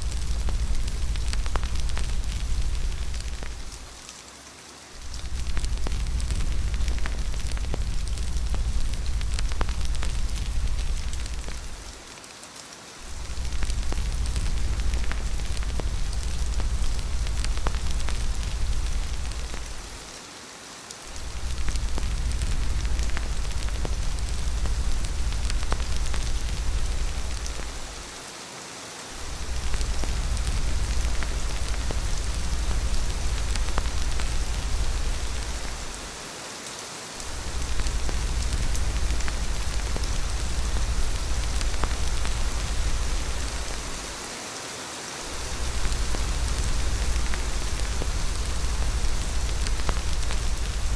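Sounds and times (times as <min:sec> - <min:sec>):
deep low rumble: 0:00.0 - 0:03.9, 0:05.0 - 0:12.0, 0:13.1 - 0:20.1, 0:21.1 - 0:28.0, 0:29.2 - 0:36.1, 0:37.2 - 0:44.2, 0:45.3 - 0:50.9
raindrop ticks: 0:00.0 - 0:20.3, 0:20.9 - 0:28.2, 0:29.1 - 0:36.2, 0:37.2 - 0:44.3, 0:45.2 - 0:50.9
steady rain falling: 0:00.0 - 0:50.9.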